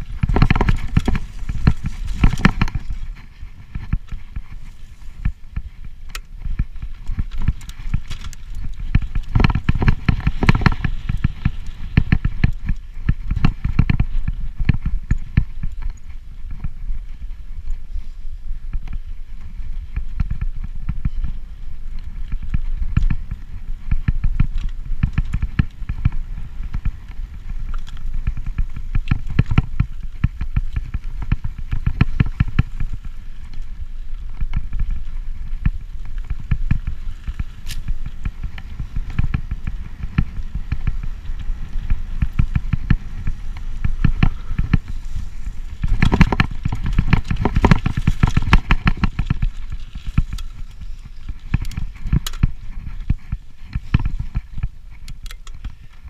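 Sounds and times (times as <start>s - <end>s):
bike clattering and rattling: 0.0s - 56.0s.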